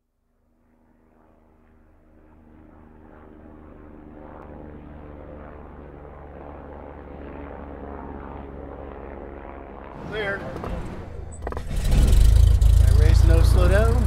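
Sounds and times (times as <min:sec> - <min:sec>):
propeller aircraft engine: 0:00.0 - 0:14.0.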